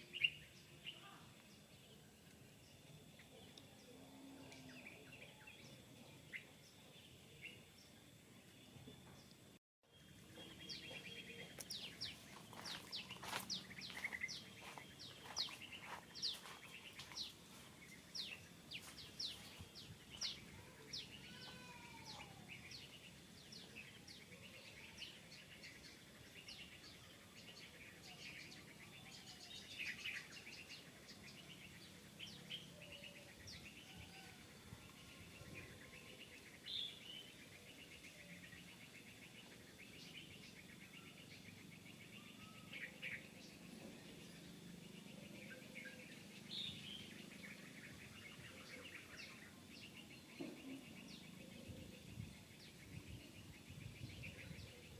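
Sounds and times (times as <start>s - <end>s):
birds chirping: 0.0s - 54.9s
faint outdoor background noise: 0.0s - 54.9s.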